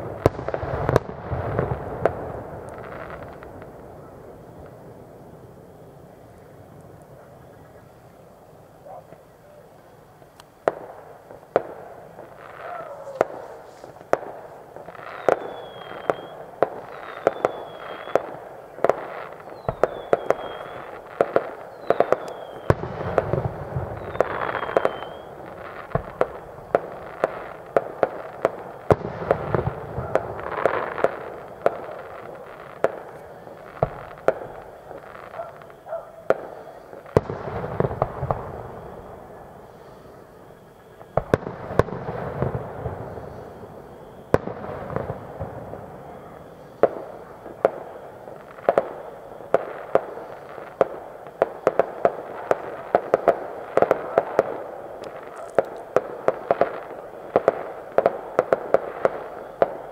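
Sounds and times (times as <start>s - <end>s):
low firework booms: 0.0s - 8.0s, 10.6s - 59.9s
distant fireworks bangs and crackles: 0.0s - 59.9s.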